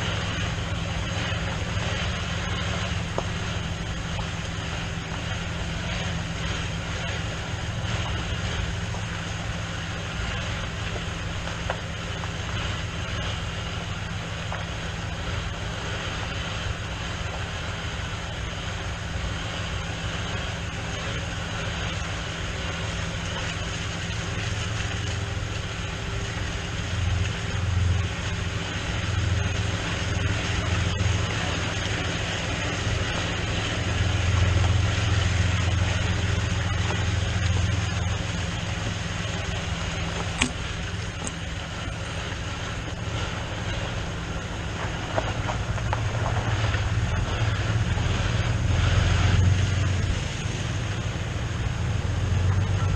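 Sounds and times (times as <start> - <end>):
tractor engine rumbling: 0.0 - 52.9.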